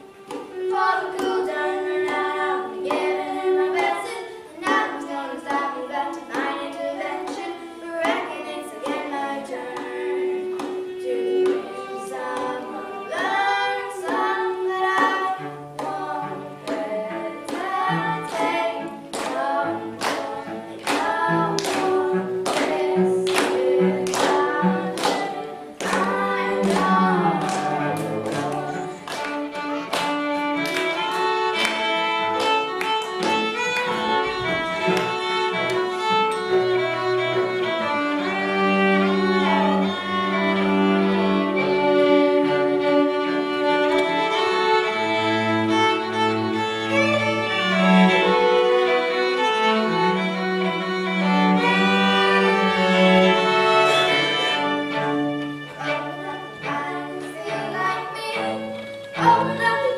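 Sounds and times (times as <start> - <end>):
violin and cello playing: 0.0 - 59.9.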